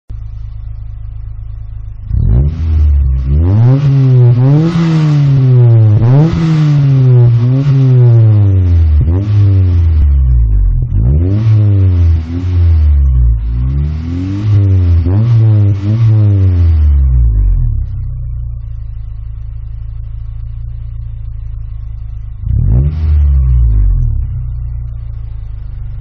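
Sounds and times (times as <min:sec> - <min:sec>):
vehicle engine revving: 0:01.4 - 0:26.0.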